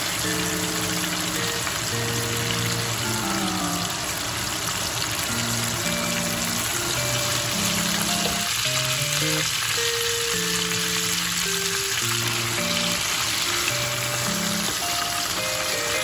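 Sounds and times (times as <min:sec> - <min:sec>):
soft background music: 0:00.0 - 0:04.2, 0:05.3 - 0:16.0
chicken deep-frying in oil: 0:00.0 - 0:16.0.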